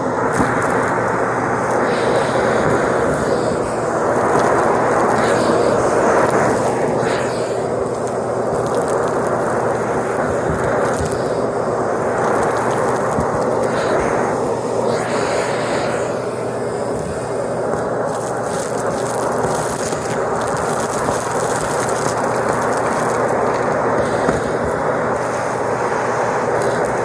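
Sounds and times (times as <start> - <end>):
debris crackling in vacuum: 0.0 - 27.0
vacuum cleaner running: 0.0 - 27.0.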